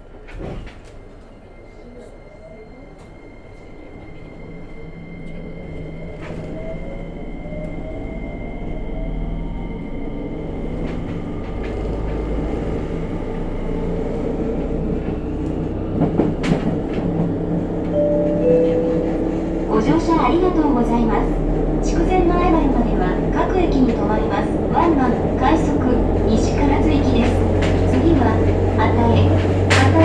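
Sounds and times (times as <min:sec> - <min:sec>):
train traction motor whine: 0:01.2 - 0:30.0.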